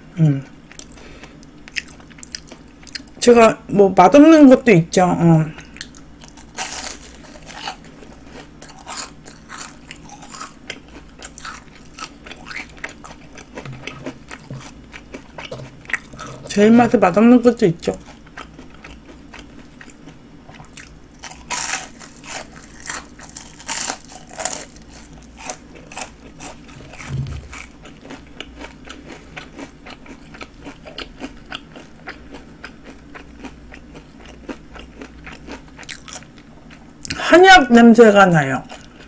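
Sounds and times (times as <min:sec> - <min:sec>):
crunchy chewing: 0:00.6 - 0:03.2, 0:05.5 - 0:16.6, 0:17.9 - 0:37.2.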